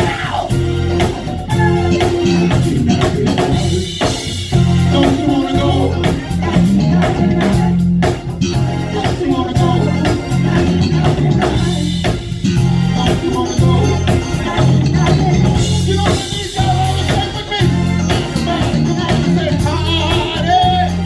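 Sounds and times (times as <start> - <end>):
electric bass line: 0.0 - 21.0
live band playing: 0.0 - 21.0.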